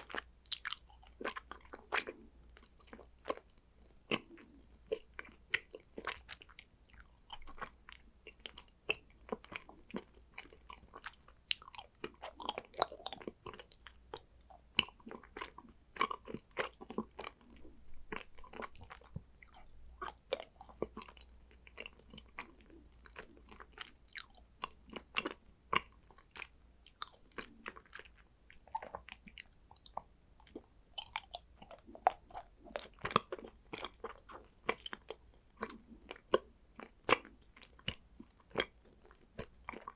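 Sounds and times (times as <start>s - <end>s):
chocolate crunching while chewing: 0.0s - 39.9s.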